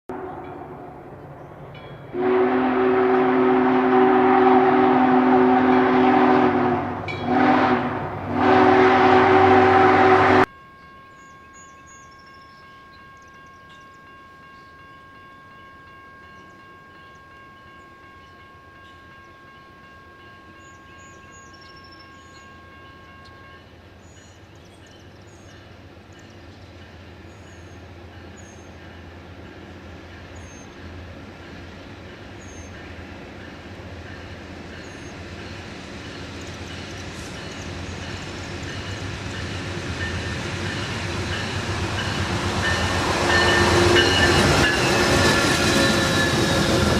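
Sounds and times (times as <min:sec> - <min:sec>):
low diesel locomotive rumble: 0:00.1 - 0:46.9.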